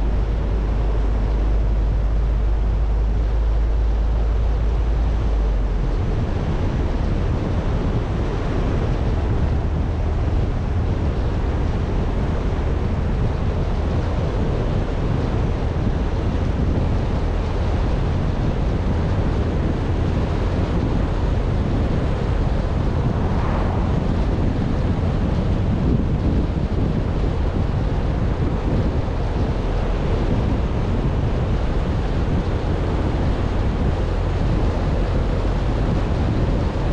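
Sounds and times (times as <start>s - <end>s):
car wind and road noise: 0.0s - 36.9s
wind rumbling on microphone: 0.0s - 36.9s.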